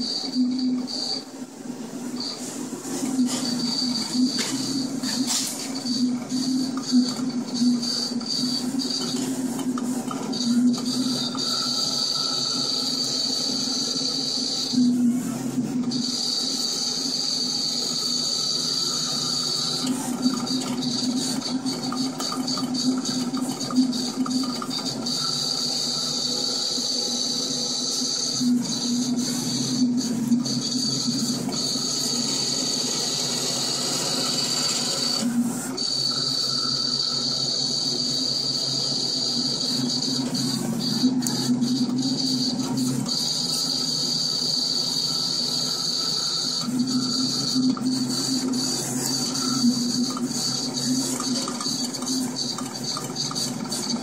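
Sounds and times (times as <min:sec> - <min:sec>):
cutting plotter motor whine: 0:00.0 - 0:54.0.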